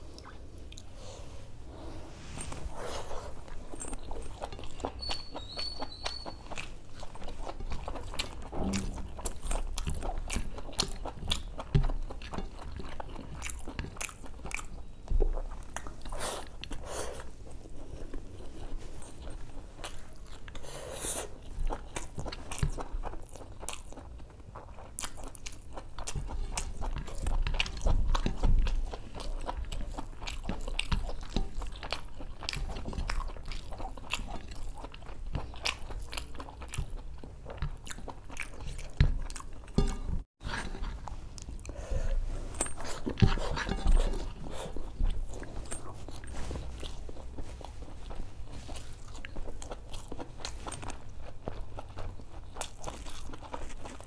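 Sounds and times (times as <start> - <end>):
close-up chewing: 0.0 - 54.0.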